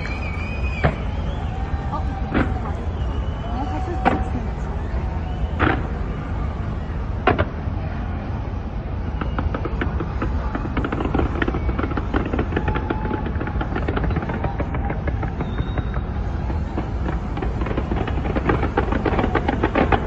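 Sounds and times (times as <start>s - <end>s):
firework bang: 0.0s - 6.5s, 9.0s - 20.0s
low rumble of booms: 0.0s - 20.0s
rapid firework crackling: 0.0s - 20.0s.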